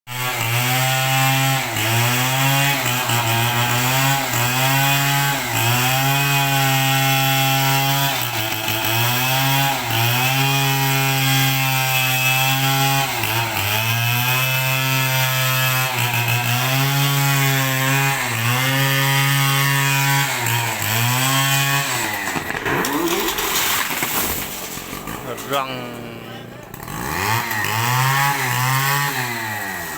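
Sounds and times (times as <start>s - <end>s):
chainsaw cutting wood: 0.1s - 29.9s.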